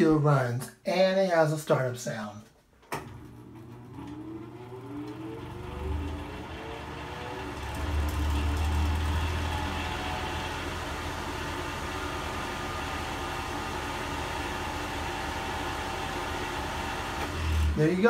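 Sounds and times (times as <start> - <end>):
heater fan motor humming: 3.0 - 18.0
fan motor high whine: 3.1 - 18.0.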